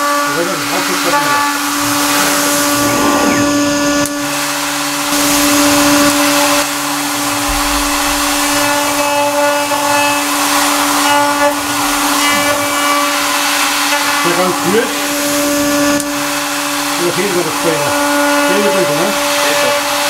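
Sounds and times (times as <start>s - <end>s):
compressed air hiss: 0.0s - 20.0s
milling spindle whine: 0.0s - 20.0s.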